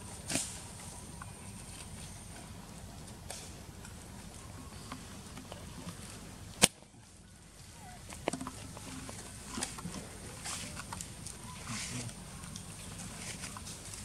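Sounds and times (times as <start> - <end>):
rustling in grass and leaves: 0.0 - 14.0.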